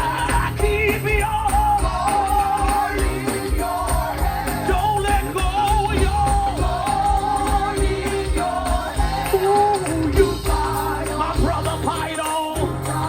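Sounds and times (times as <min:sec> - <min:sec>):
band with steady bass beat: 0:00.0 - 0:13.0
gospel singing: 0:00.0 - 0:13.0.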